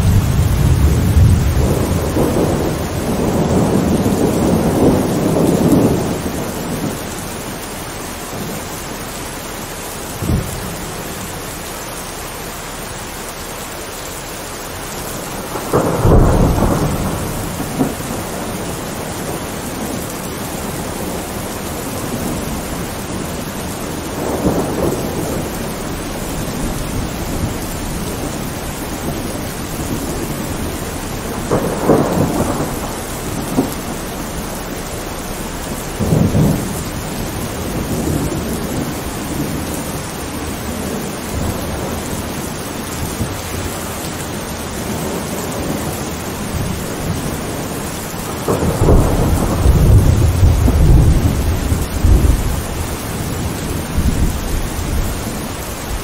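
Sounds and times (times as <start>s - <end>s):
thunder rumbling: 0.0s - 13.1s, 14.3s - 56.0s
heavy rain: 0.0s - 56.0s.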